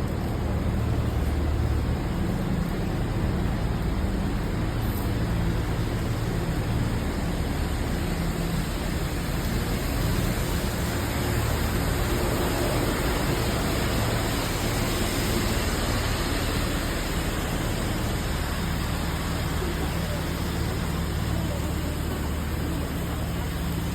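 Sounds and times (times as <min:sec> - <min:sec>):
heavy rain: 0:00.0 - 0:23.9
traffic engine hum: 0:00.0 - 0:23.9.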